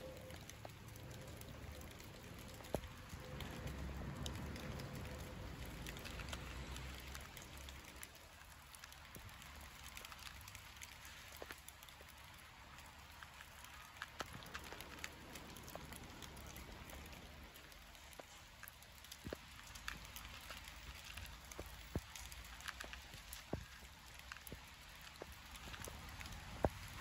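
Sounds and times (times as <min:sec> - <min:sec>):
light rain pattering: 0:00.0 - 0:27.0
sharp drips and ticks: 0:00.0 - 0:27.0.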